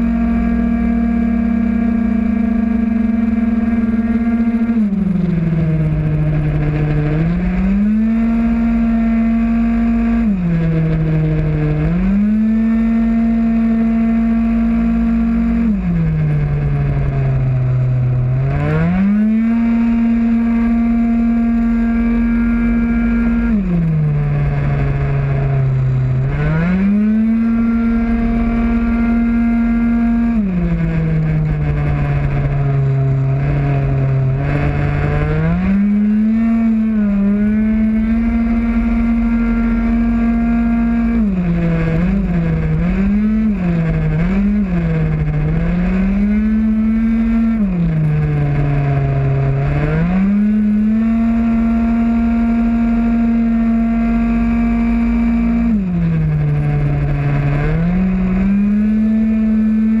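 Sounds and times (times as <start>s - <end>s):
two-stroke scooter engine racing: 0.0s - 60.0s.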